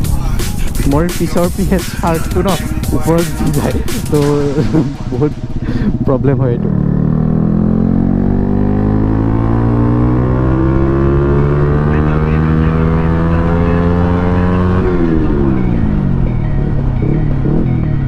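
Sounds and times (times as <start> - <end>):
loud motorcycle engine revving: 1.3 - 18.0.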